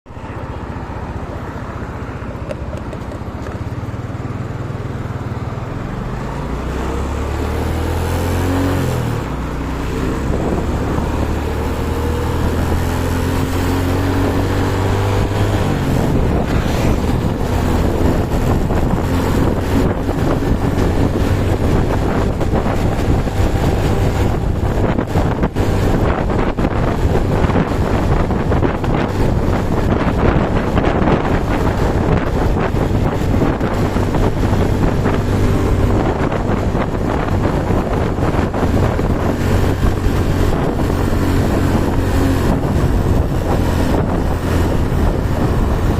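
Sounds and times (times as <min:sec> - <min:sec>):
motorcycle engine accelerating: 0:00.1 - 0:45.9
wind rushing on microphone: 0:00.1 - 0:45.9.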